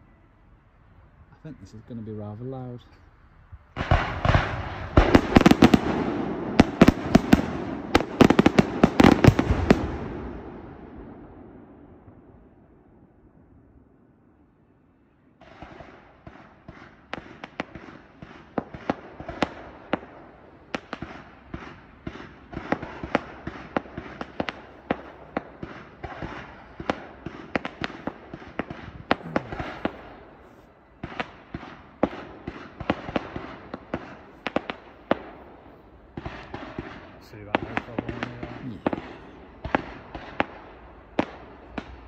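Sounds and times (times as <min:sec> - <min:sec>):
fireworks bangs and crackles: 0:03.7 - 0:12.3, 0:15.4 - 0:42.0.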